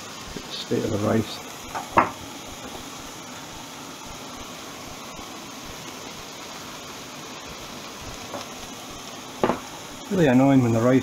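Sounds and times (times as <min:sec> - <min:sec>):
chicken frying in a pan: 0:00.0 - 0:11.0
rice boiling: 0:00.0 - 0:11.0.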